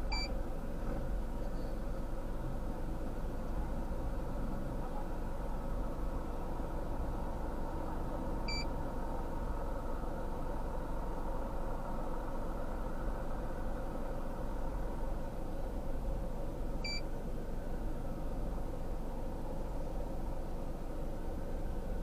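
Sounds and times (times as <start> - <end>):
vehicle running rumble: 0.0 - 22.0.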